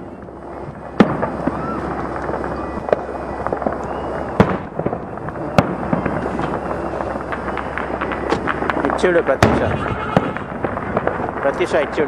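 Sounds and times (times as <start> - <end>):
fireworks bangs: 0.0 - 12.0
fireworks crackles: 0.0 - 12.0.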